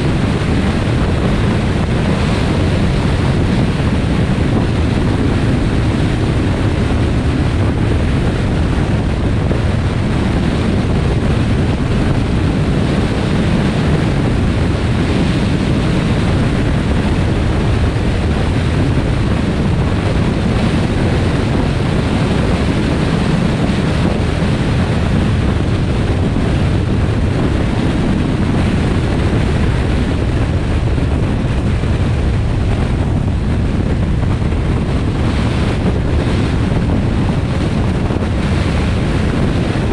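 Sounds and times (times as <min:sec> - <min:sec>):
car road noise at speed: 0:00.0 - 0:39.9
wind rumble on microphone: 0:00.0 - 0:39.9.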